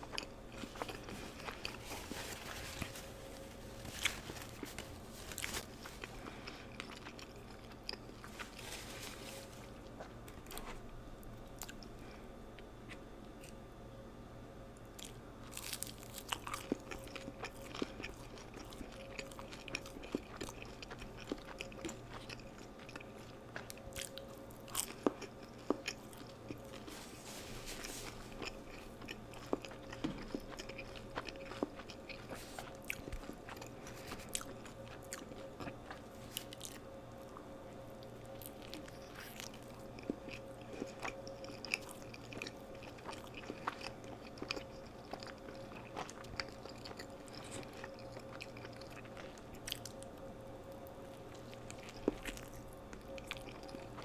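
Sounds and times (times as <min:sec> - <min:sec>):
crunchy chewing: 0:00.0 - 0:12.2, 0:14.8 - 0:54.0
faint steady hum: 0:00.0 - 0:54.0.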